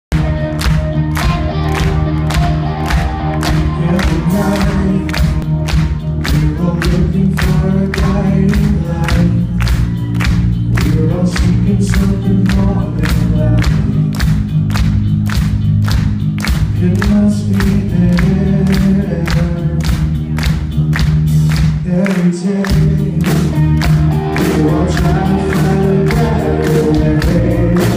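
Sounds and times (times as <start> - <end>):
bass guitar: 0.0 - 27.9
electric guitar: 0.1 - 27.9.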